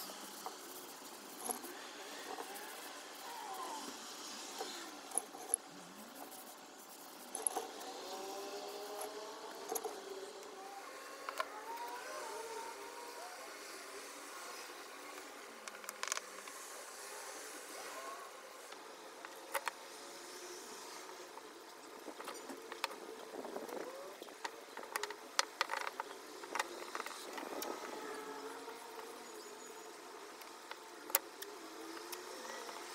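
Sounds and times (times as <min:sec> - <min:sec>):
faint steady background noise: 0:00.0 - 0:32.9.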